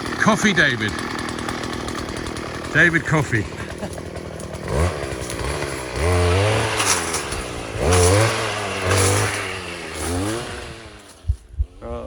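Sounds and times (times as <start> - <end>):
small petrol engine revving: 0.0 - 12.0.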